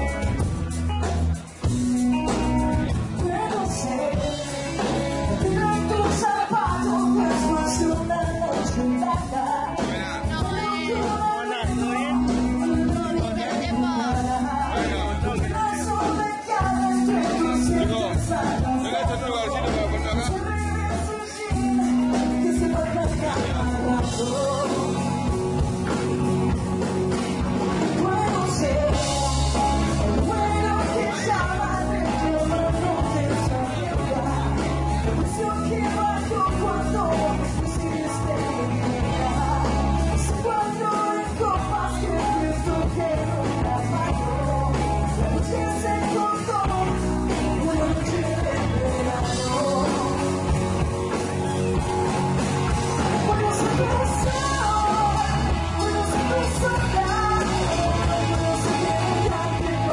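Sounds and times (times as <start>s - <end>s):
drums: 0.0s - 59.9s
electric guitar: 0.0s - 59.9s
woman singing: 1.9s - 26.6s, 27.7s - 51.9s, 52.9s - 59.9s.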